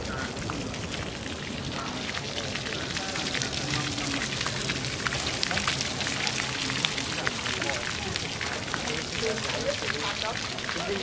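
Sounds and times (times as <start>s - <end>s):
faint voices of passers-by: 0.0s - 11.0s.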